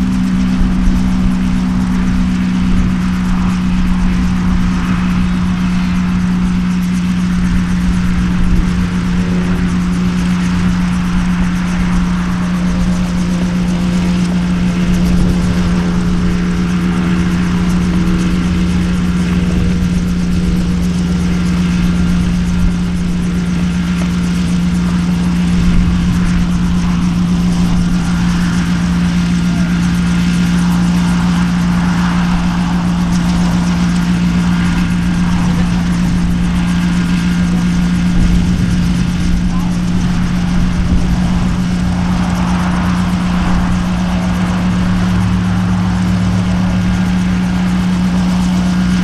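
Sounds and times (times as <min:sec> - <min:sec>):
helicopter engine idling: 0:00.0 - 0:49.0.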